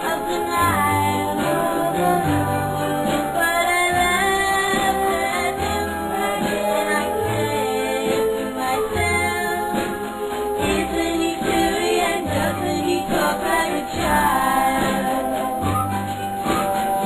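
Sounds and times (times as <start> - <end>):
woman singing over a band: 0.0 - 15.8.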